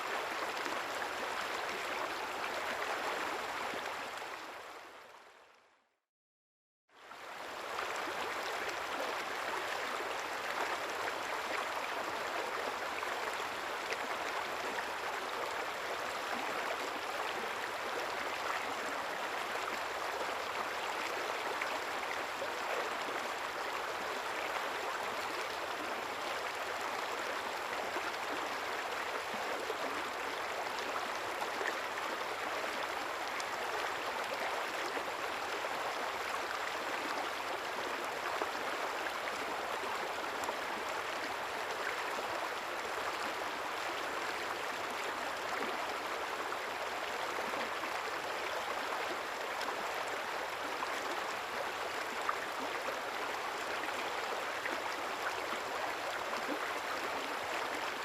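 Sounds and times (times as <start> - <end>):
river water babbling: 0.0 - 5.6, 7.0 - 58.0.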